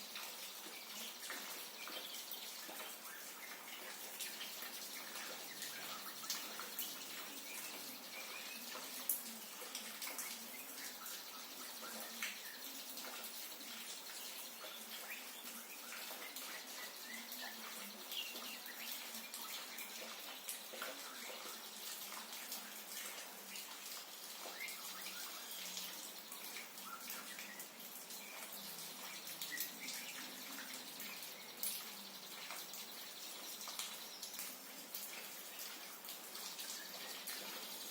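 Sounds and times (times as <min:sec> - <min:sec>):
drip-like clicks: 0:00.1 - 0:37.9.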